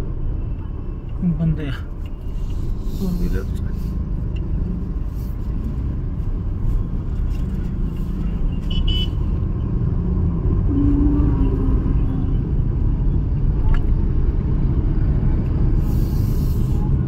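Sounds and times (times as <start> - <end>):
engine and road noise: 0.0 - 17.0.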